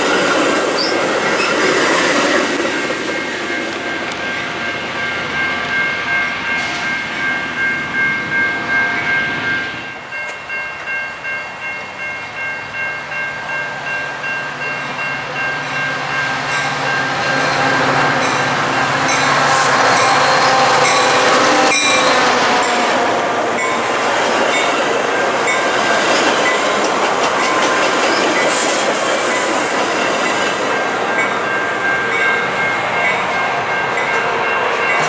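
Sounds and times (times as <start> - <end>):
diesel locomotive engine: 0.0 - 35.0
train wheels on rails: 0.0 - 35.0
crossing bell dinging: 2.9 - 35.0.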